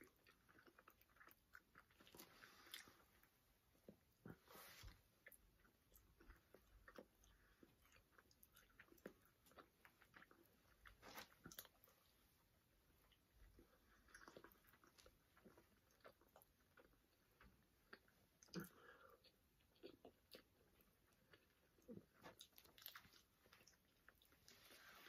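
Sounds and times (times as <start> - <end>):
faint chewing: 0.0 - 25.0.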